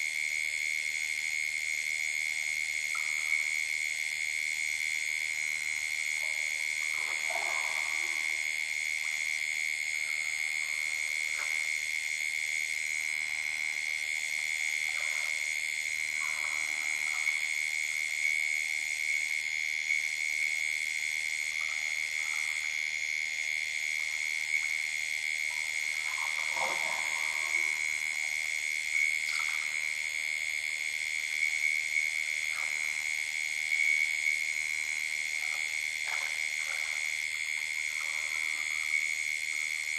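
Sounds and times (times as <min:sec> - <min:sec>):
frogs and insects calling: 0:00.0 - 0:39.9.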